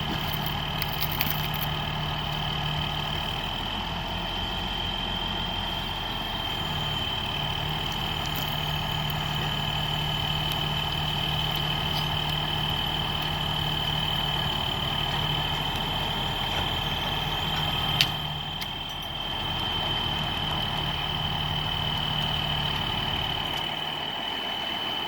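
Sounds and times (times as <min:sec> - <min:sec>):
tow truck engine idling: 0:00.0 - 0:25.0.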